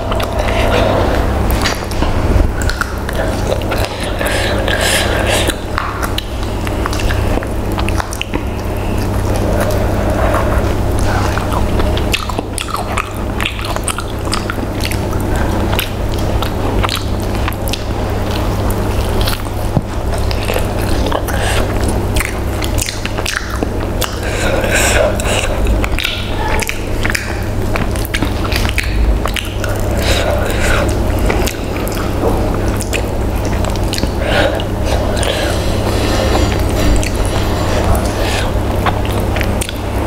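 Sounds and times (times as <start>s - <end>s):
biting and chewing: 0.0s - 40.0s
steady low hum: 0.0s - 40.0s.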